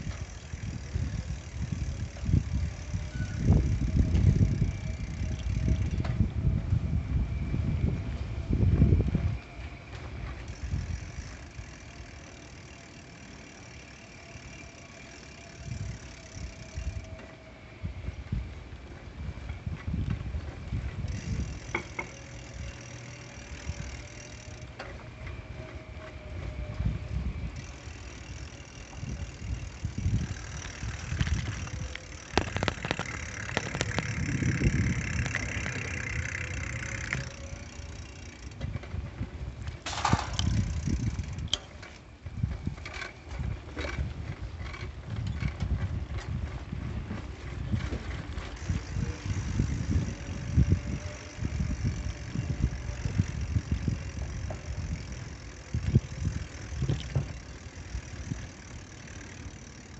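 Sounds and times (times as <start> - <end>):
wind rumble on microphone: 0.0 - 12.3, 15.5 - 59.9
bicycle clicks and rattles: 0.0 - 59.9
road traffic hum: 0.0 - 59.9.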